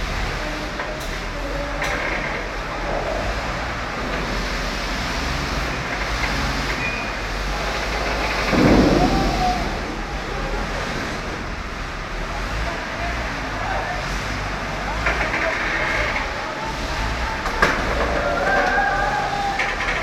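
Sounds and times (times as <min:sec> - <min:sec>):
heavy machinery rumble: 0:00.0 - 0:20.0.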